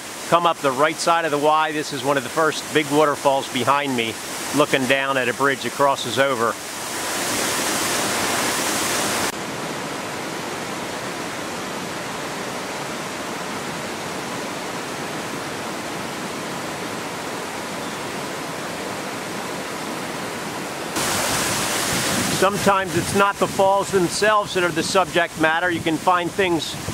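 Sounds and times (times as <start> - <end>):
waterfall rushing over rocks: 0.0 - 26.9.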